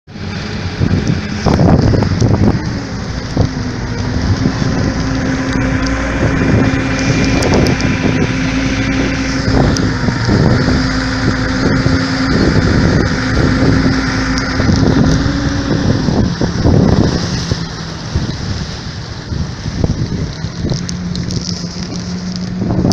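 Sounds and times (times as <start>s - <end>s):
motorboat engine: 0.0s - 22.9s
water rushing past hull: 0.1s - 22.9s
wind buffeting microphone: 0.1s - 22.9s.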